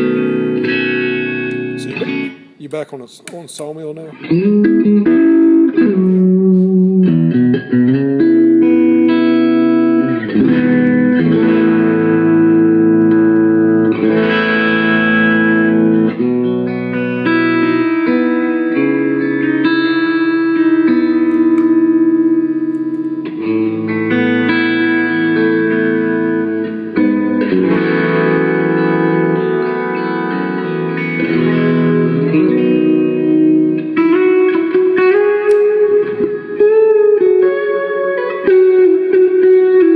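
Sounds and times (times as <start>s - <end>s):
distorted electric guitar chords: 0.0s - 2.6s, 4.1s - 39.9s.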